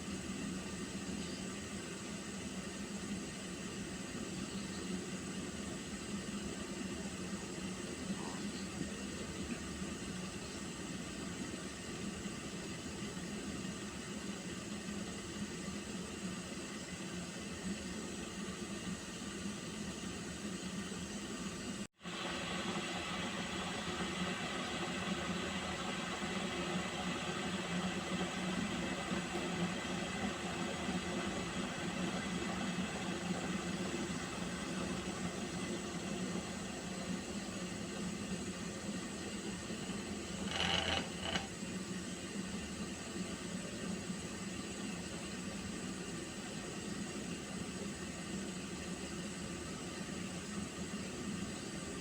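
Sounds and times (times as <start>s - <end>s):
water heating in a pot: 0.0s - 52.0s.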